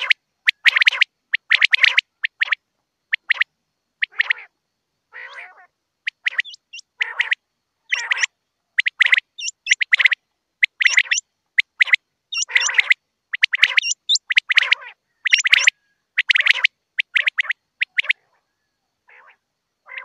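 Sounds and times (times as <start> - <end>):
quail calling: 0.0 - 4.5, 5.1 - 20.0.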